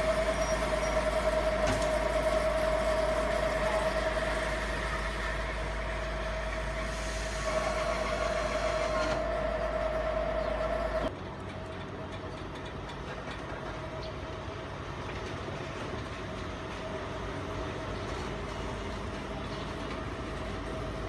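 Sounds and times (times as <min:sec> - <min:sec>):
diesel engine hum: 0:00.0 - 0:21.0
train rumble: 0:00.0 - 0:21.0.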